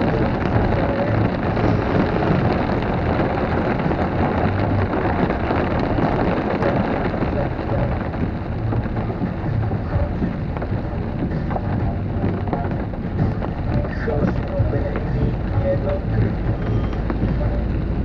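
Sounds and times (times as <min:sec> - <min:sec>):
heavy rain: 0:00.0 - 0:18.0.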